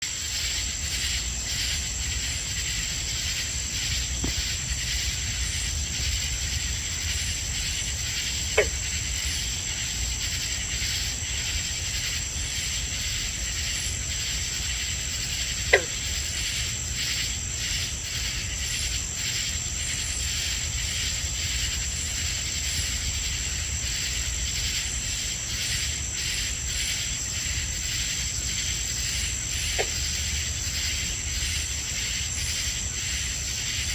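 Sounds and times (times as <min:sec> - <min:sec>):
crickets and katydids trilling: 0:00.0 - 0:33.9
short sharp insect call: 0:00.1 - 0:33.9.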